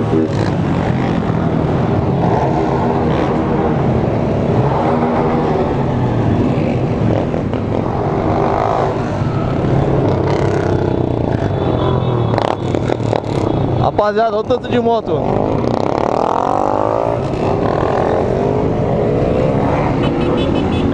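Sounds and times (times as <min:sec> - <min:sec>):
motorcycle engines revving: 0:00.0 - 0:20.9.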